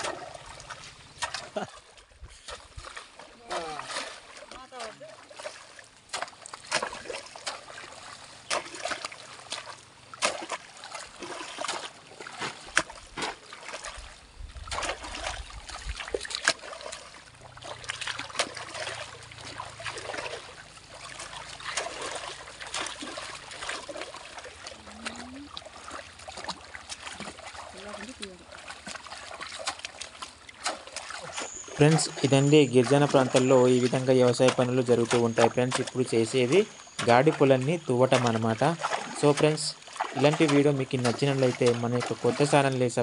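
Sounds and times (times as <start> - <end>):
crowbar jabbing waterlogged soil: 0.0 - 43.0
feet wading in muddy water: 0.0 - 43.0.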